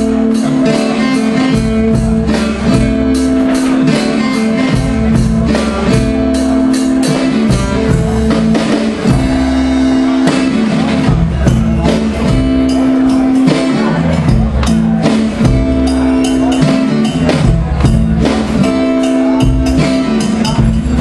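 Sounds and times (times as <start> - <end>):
acoustic guitar: 0.0 - 21.0
drum kit beat: 0.0 - 21.0.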